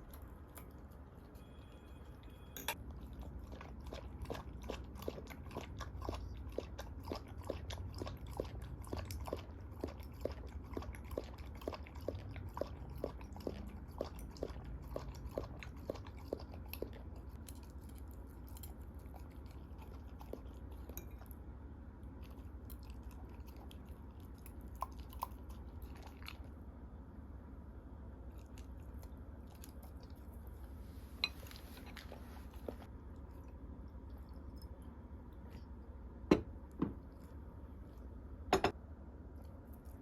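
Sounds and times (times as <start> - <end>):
dog chewing and crunching food: 0.0 - 26.7, 28.1 - 38.3, 39.2 - 40.0.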